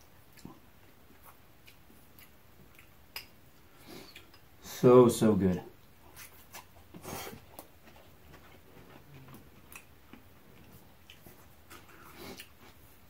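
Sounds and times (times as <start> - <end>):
chewing noodles: 0.0 - 4.4, 5.8 - 13.0.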